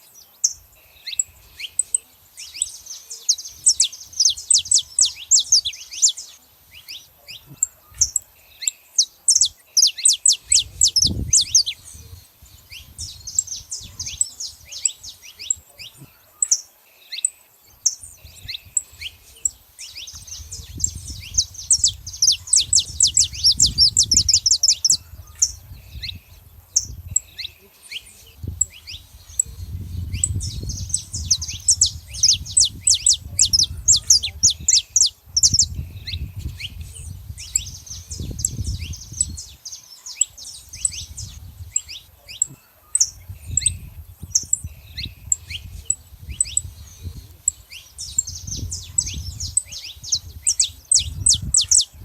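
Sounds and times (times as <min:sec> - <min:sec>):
finches singing and calling: 0:00.0 - 0:52.0.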